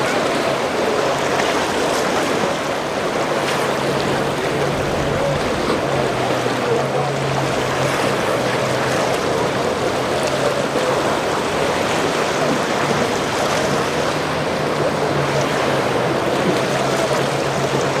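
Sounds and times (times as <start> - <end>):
boat engine hum: 0.0 - 18.0
surf rushing: 0.0 - 18.0.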